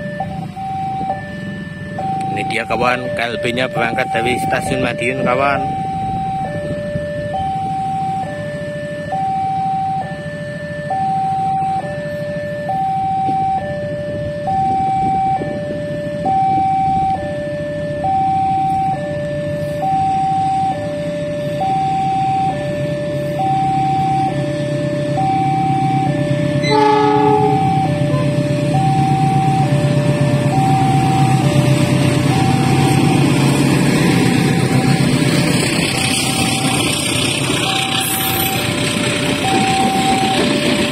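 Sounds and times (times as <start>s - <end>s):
departing train rumble: 0.0s - 40.9s
level crossing two-tone alarm: 0.0s - 40.9s.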